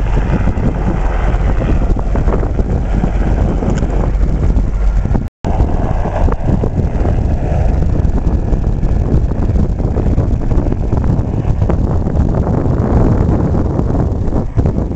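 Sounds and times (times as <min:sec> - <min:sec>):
helicopter rotor and engine: 0:00.0 - 0:14.9
wind buffeting microphone: 0:00.0 - 0:14.9.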